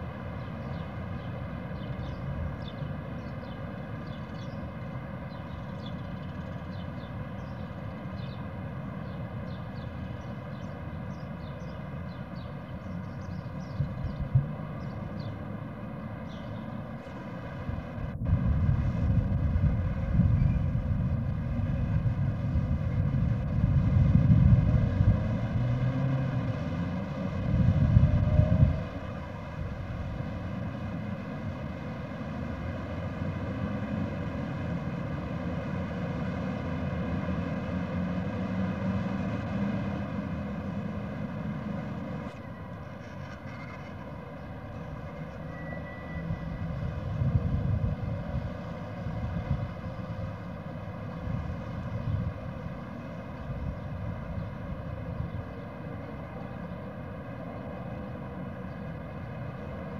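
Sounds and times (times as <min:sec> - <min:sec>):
low outdoor rumble: 0:00.0 - 0:59.9.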